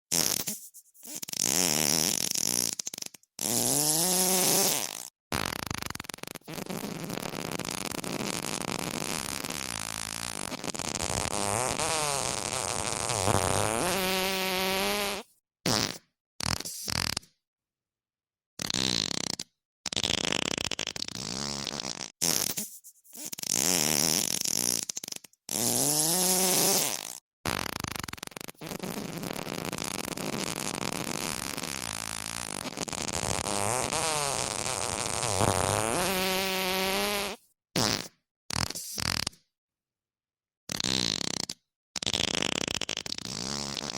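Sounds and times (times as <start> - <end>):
farting sounds: 0.1 - 17.4, 18.6 - 39.5, 40.7 - 43.9.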